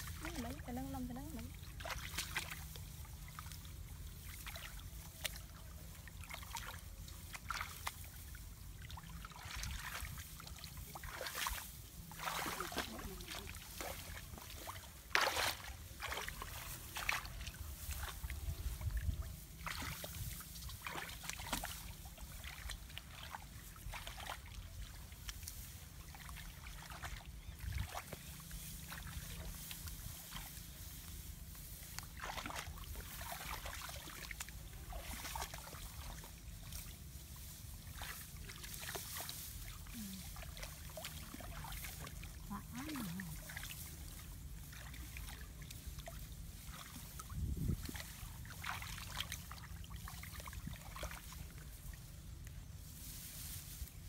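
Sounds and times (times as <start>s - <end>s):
muddy water splashing: 0.0s - 54.0s.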